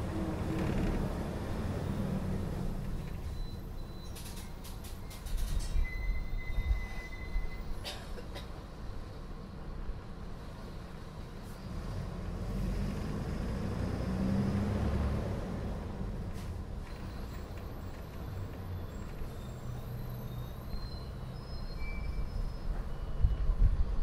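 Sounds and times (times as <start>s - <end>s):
bus diesel engine rumble: 0.0s - 24.0s.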